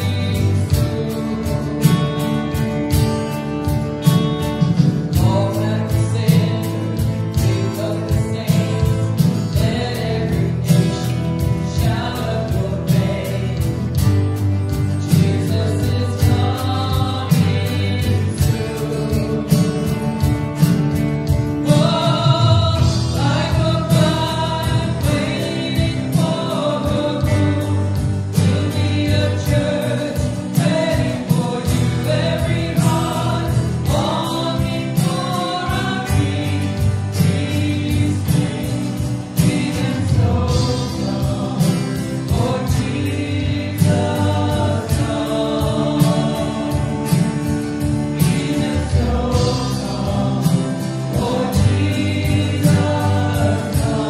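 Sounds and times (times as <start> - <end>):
instrumental backing: 0.0 - 54.0
voices singing worship song: 0.0 - 54.0.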